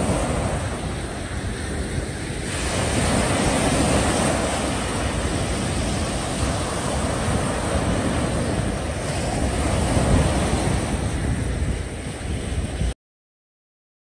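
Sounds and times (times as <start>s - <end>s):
small waves breaking on beach: 0.0s - 12.9s
wind rumbling on microphone: 0.0s - 13.0s.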